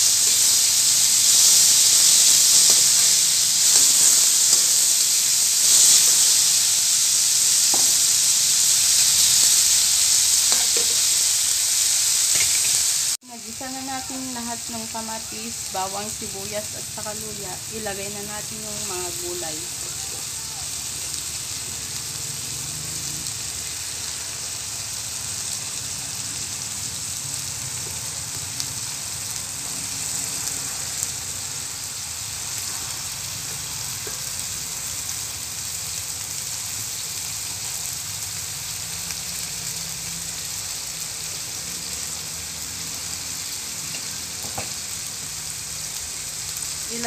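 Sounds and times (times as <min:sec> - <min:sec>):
vegetables sizzling in hot oil: 0:00.0 - 0:47.0.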